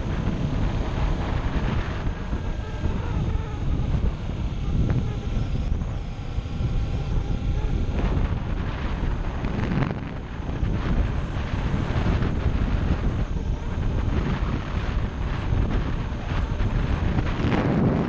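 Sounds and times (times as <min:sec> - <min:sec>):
motorcycle engine running: 0:00.0 - 0:18.0
wind buffeting microphone: 0:00.0 - 0:18.0.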